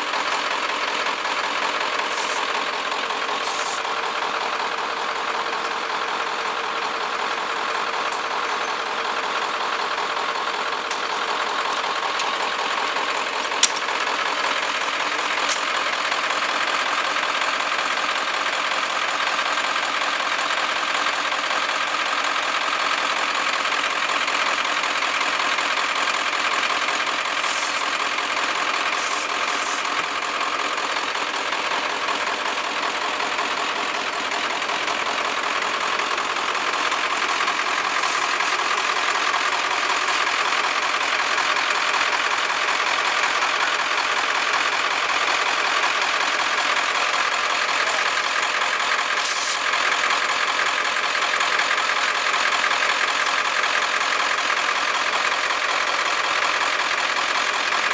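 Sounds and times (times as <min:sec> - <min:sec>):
vehicle engine idling: 0:00.0 - 0:57.9.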